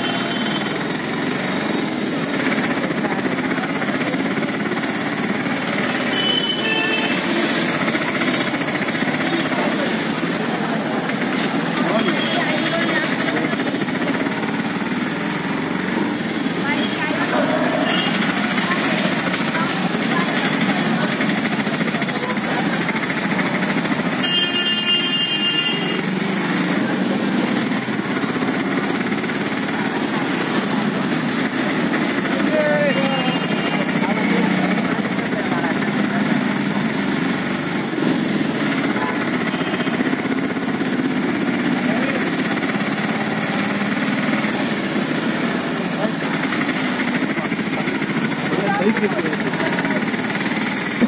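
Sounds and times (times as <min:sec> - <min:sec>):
motorcycle engine running: 0:00.0 - 0:51.0
other motorbikes: 0:00.0 - 0:51.0
faint voices: 0:07.2 - 0:24.3, 0:25.9 - 0:51.0.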